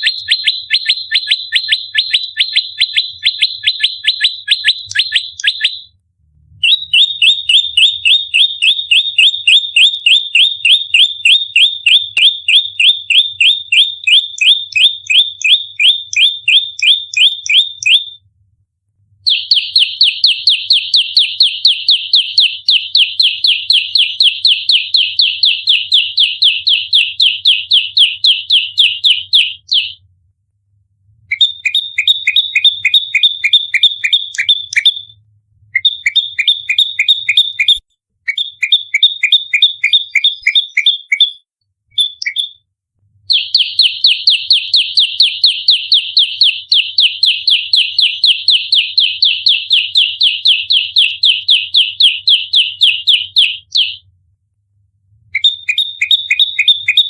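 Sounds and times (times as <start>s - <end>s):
bird rapid sharp chirps: 0.0s - 5.9s, 6.6s - 18.2s, 19.3s - 30.0s, 31.3s - 35.1s, 35.8s - 42.6s, 43.3s - 54.0s, 55.4s - 57.0s.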